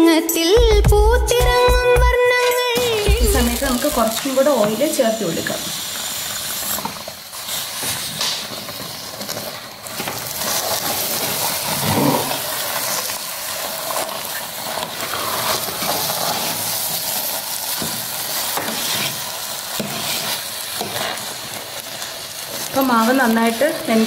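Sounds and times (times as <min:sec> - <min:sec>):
oil sizzling: 0:02.2 - 0:24.0.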